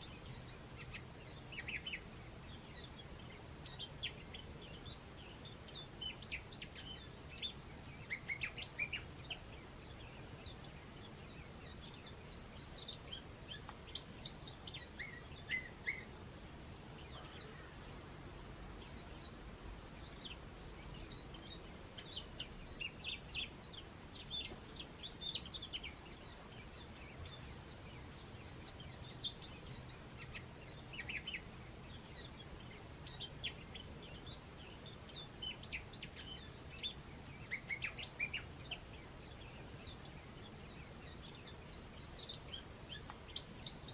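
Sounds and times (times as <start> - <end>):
faint low background noise: 0.0 - 43.9
small birds chirping: 0.0 - 43.9.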